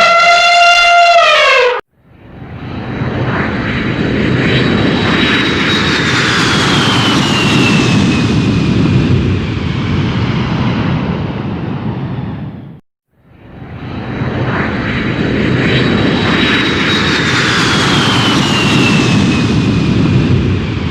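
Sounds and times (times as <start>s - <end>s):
aircraft engine passing by: 2.0s - 20.9s.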